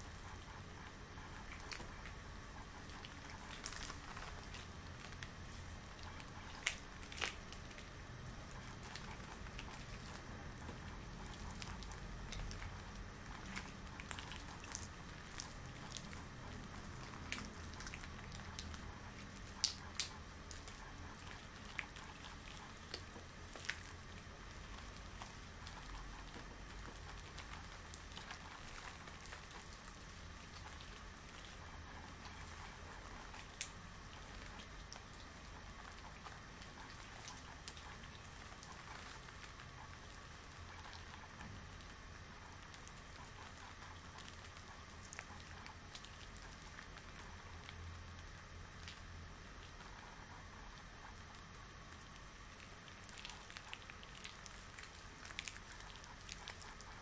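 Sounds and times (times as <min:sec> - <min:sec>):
latex gloves rustling and crackling: 0:01.2 - 0:49.0.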